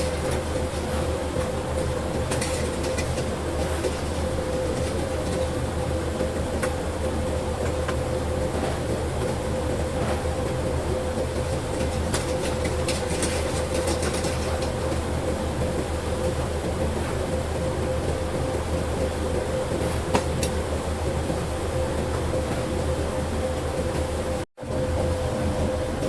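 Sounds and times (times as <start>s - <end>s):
machine humming and whining: 0.0s - 26.0s.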